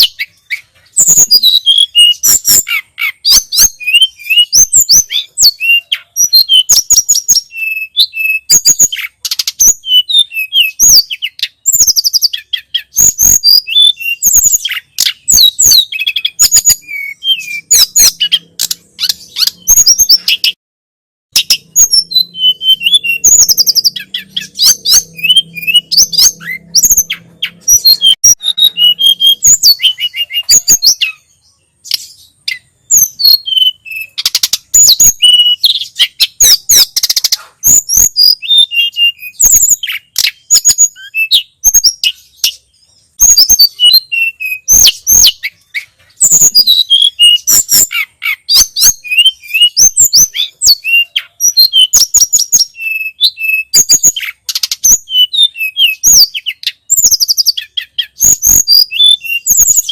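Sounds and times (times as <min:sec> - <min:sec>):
bird singing high chirps: 0:00.0 - 0:20.6, 0:21.3 - 0:59.9.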